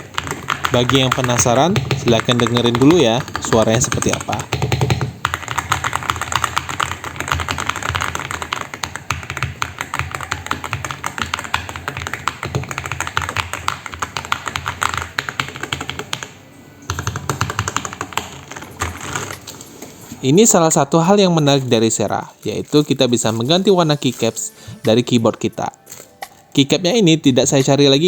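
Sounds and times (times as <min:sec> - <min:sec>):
mechanical keyboard typing: 0:00.0 - 0:19.6, 0:21.5 - 0:26.4.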